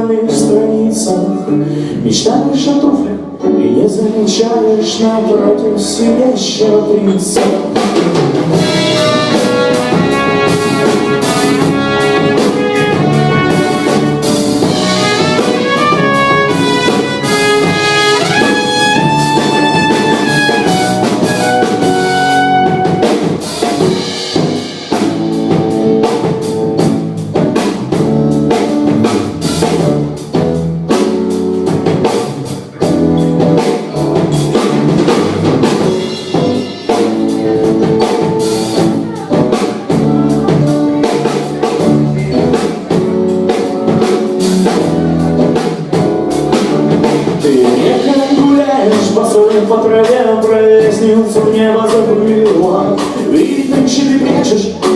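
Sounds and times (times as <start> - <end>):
lead melody: 0.0 - 54.9
live band playing: 0.0 - 54.9
drum kit beat: 3.4 - 54.9.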